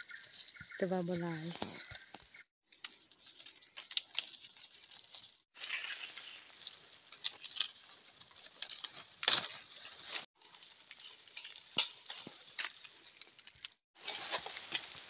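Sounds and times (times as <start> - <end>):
leaves and twigs rustling: 0.0 - 15.0
twigs snapping: 1.6 - 15.0.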